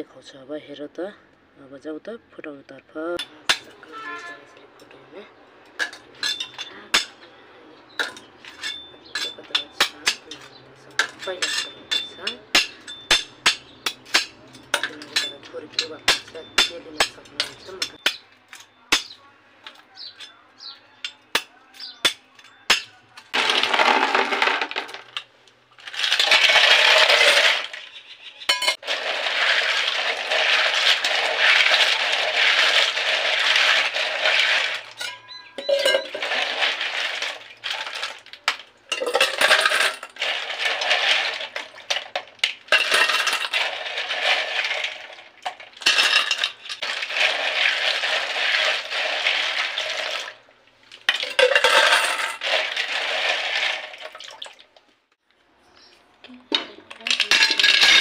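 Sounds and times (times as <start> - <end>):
snail shells clinking in metal basin: 3.2 - 54.5, 56.5 - 58.0.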